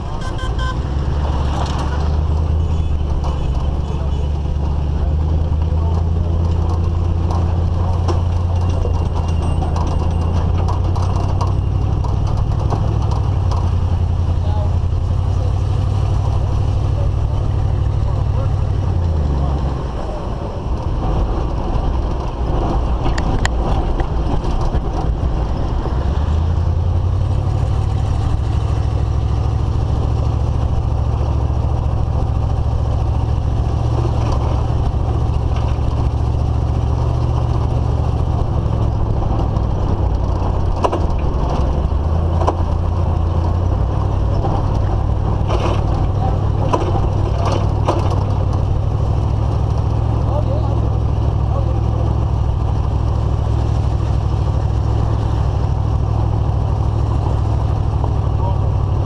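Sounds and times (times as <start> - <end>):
vehicle rumbling on dirt road: 0.0 - 59.0
rattles and clicks: 1.2 - 15.5, 16.1 - 59.0.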